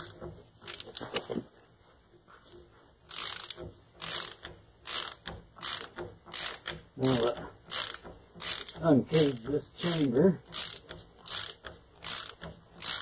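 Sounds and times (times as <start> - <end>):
ratchet wrench clicking: 0.0 - 1.2, 3.1 - 13.0.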